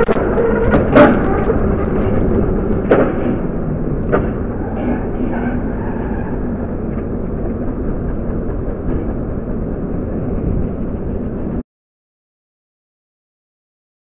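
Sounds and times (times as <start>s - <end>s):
kart engine rumble and rattle: 0.0s - 11.6s.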